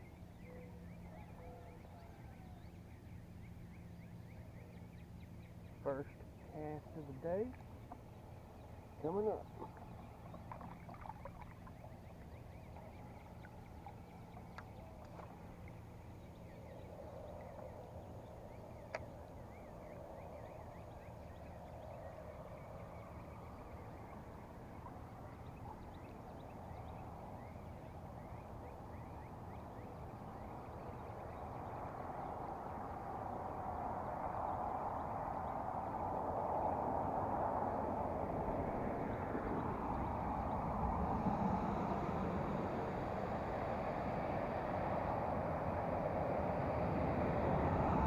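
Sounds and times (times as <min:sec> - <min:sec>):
dawn chorus birds calling: 0:00.0 - 0:43.4
distant road traffic: 0:00.0 - 0:48.0.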